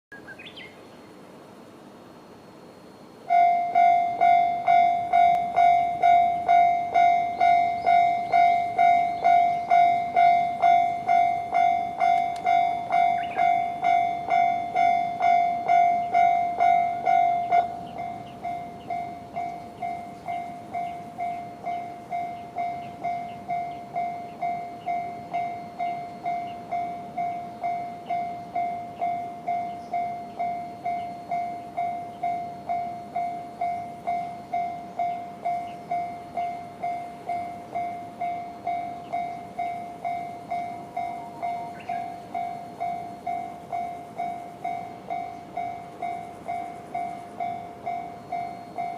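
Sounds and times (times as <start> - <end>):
level crossing alarm bell: 3.2 - 48.9.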